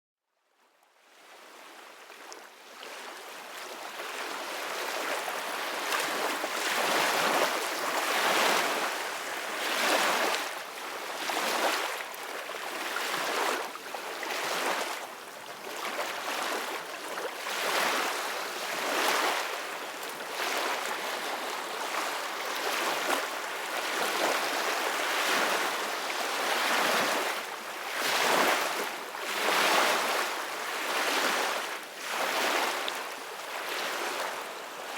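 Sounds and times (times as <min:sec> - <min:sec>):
ocean waves washing onto shore: 0:02.9 - 0:34.9.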